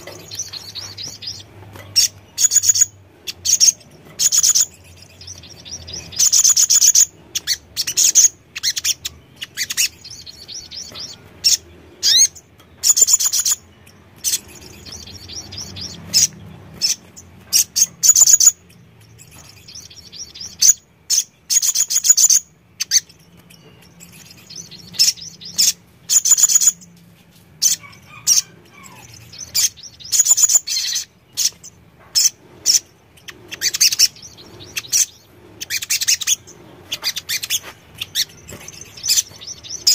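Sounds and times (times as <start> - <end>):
bird twittering chirps: 0.0 - 27.0, 27.6 - 39.9.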